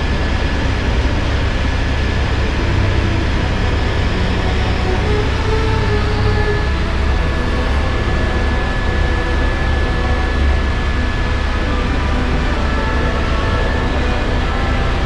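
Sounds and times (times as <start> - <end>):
helicopter rotor and engine drone: 0.0 - 15.0
thin high whine: 0.0 - 15.0.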